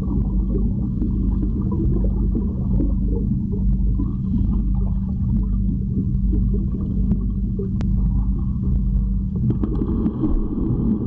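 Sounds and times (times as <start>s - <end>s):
constant hum: 0.0s - 11.0s
muffled underwater rumble: 0.0s - 11.0s.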